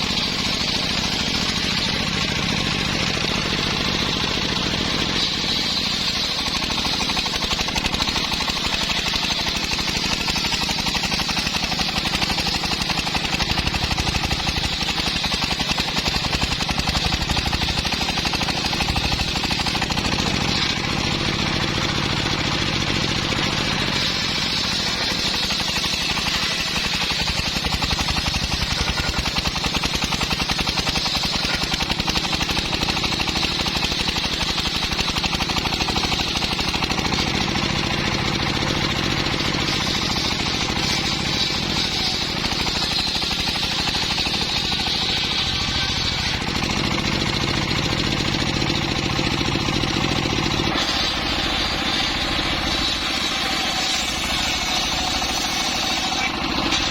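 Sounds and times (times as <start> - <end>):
saw blade whining in wood: 0.0 - 56.9
sawmill engine pulsing: 0.0 - 56.9.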